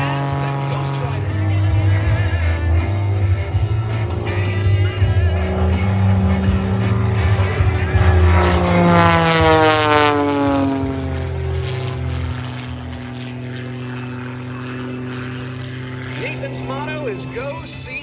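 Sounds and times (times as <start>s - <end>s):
propeller plane passing: 0.0s - 18.0s.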